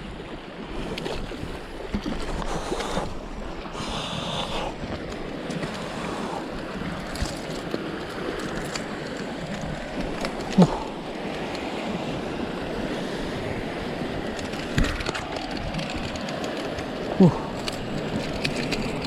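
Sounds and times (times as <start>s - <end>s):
sea waves washing against rocks: 0.0s - 19.0s.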